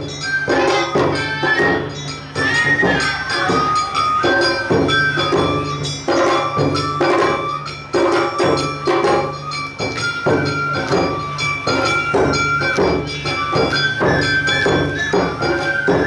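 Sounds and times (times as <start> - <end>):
bamboo flute melody: 0.0 - 16.0
taiko drum strokes: 0.0 - 16.0.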